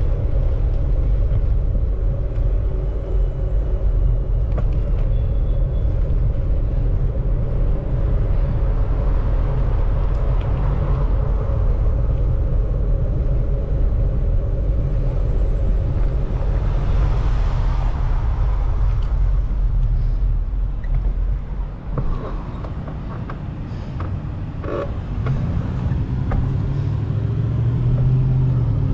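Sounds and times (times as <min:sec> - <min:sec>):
road traffic passing: 0:00.0 - 0:28.9
wind rumble on microphone: 0:00.0 - 0:28.9.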